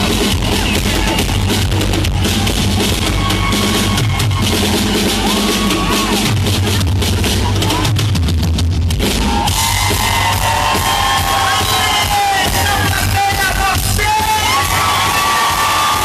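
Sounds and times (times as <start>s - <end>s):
crowd cheering and screaming: 0.0s - 6.5s, 9.0s - 16.0s
live band with pounding drums: 0.0s - 16.0s.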